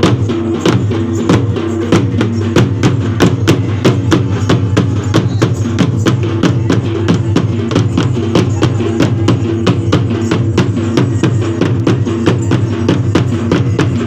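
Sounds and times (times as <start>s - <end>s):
music with fast drumbeat: 0.0s - 14.0s.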